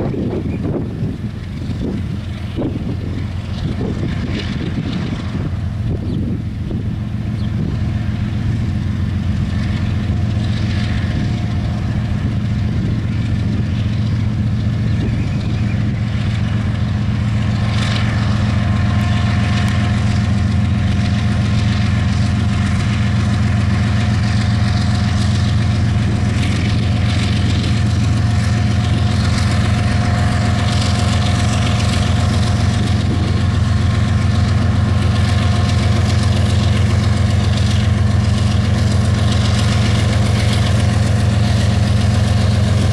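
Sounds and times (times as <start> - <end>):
diesel locomotive engines rumbling: 0.0 - 42.9.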